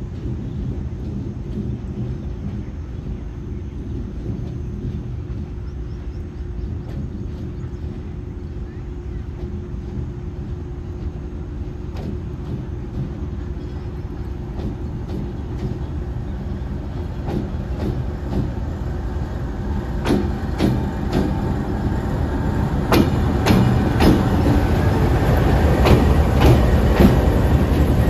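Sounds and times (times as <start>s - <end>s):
low train rumble: 0.0s - 28.0s
train wheels clicking over rail joints: 0.0s - 28.0s.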